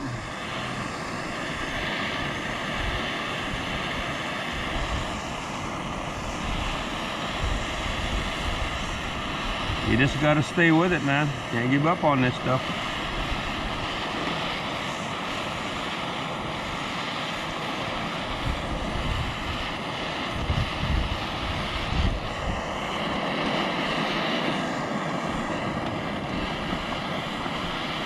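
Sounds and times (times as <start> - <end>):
gas torch flame burning: 0.0 - 28.0
wind buffeting microphone: 0.0 - 28.0.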